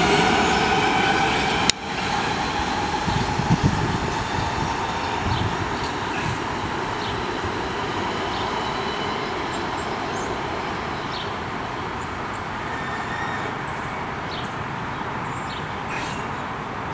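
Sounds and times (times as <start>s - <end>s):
train rumbling along track: 0.0s - 15.3s.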